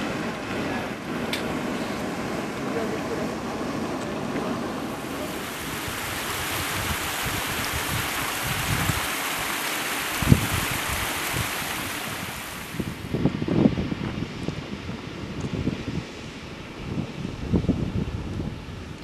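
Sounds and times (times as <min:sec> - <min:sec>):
steam venting with rushing hiss: 0:00.0 - 0:18.8
wind buffeting microphone: 0:00.0 - 0:19.0.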